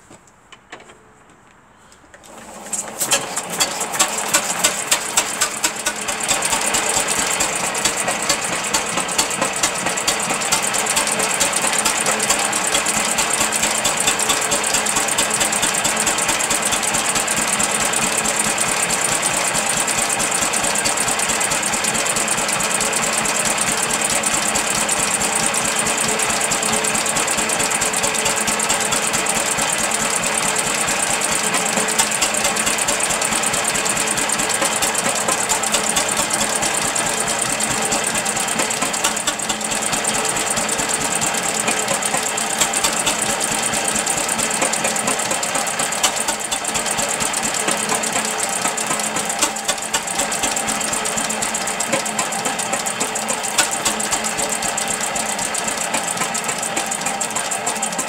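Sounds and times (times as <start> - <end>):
stationary engine clattering: 2.8 - 58.0.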